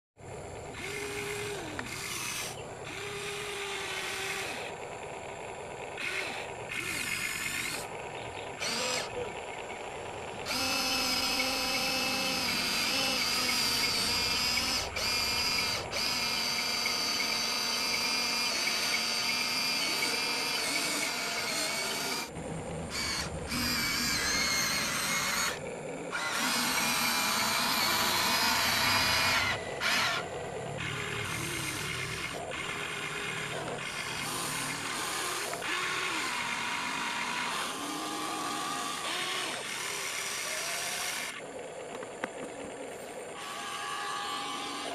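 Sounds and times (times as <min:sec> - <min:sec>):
toy excavator motors whining: 0:00.3 - 0:44.9.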